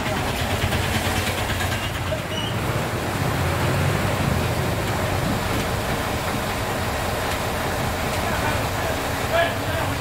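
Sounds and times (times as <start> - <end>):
diesel crane engine running: 0.0 - 10.0.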